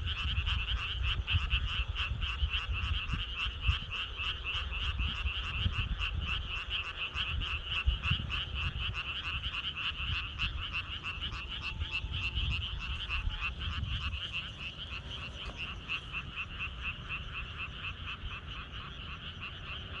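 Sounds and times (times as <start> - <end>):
frogs croaking: 0.0 - 20.0.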